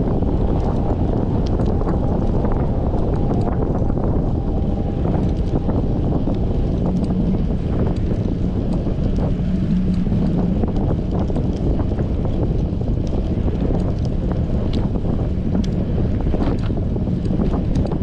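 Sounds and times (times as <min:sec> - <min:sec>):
low hum: 0:00.0 - 0:18.0
wind buffeting microphone: 0:00.0 - 0:18.0
small ticks: 0:00.2 - 0:18.0.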